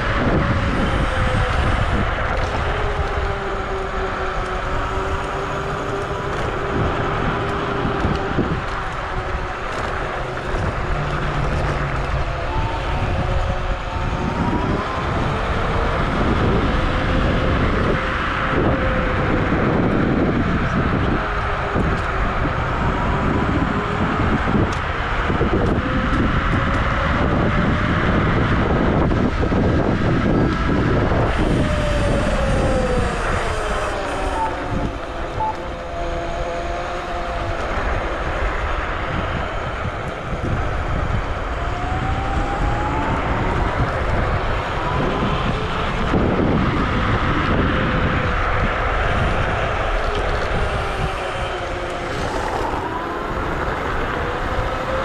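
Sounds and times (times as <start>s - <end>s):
electric motor whine: 0.0s - 55.0s
tyre road noise: 0.0s - 55.0s
wind rumbling on microphone: 0.0s - 55.0s.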